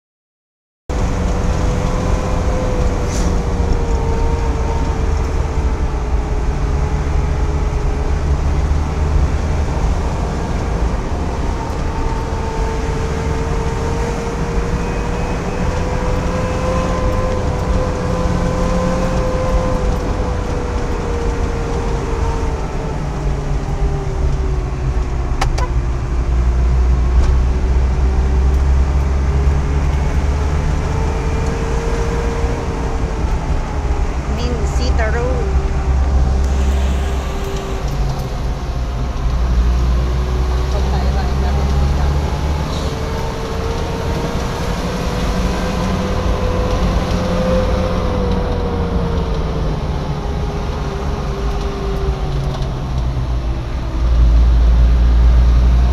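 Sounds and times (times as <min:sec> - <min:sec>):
humming engine: 0:00.9 - 0:55.9
road noise rumble: 0:00.9 - 0:55.9.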